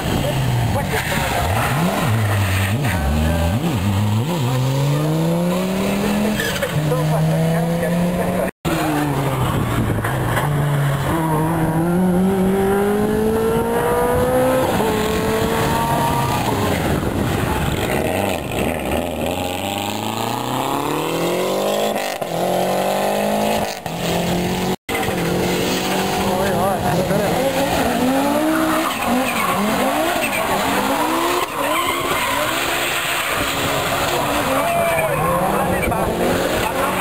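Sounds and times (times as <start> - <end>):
rally car engines accelerating: 0.0 - 37.0.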